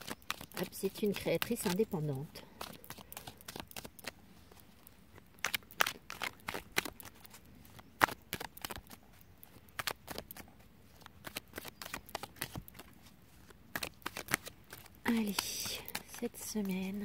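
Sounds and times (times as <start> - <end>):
cards being shuffled by hand: 0.0 - 17.0.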